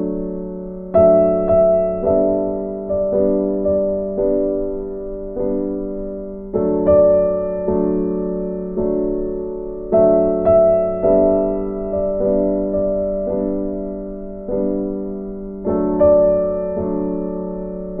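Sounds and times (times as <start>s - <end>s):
slow gentle piano chords: 0.0s - 18.0s.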